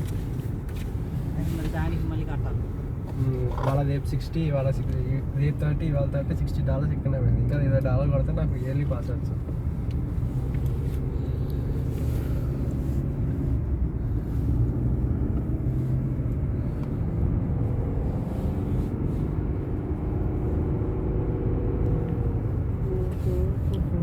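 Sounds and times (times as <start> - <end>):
car interior engine and road noise: 0.0 - 24.0.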